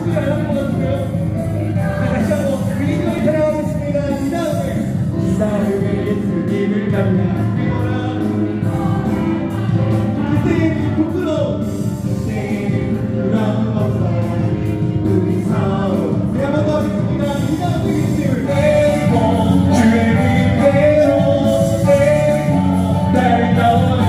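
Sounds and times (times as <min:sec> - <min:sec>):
congregation singing: 0:00.0 - 0:24.0
musical accompaniment: 0:00.0 - 0:24.0.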